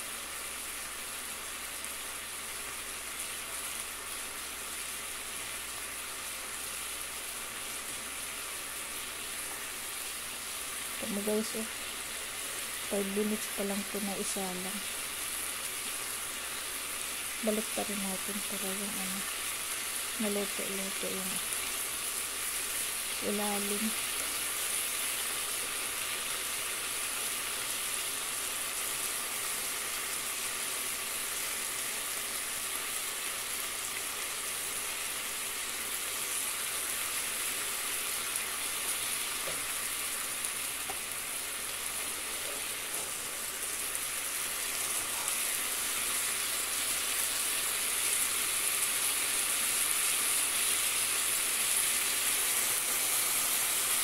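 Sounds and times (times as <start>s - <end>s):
chicken sizzling in frying pan: 0.0s - 54.0s.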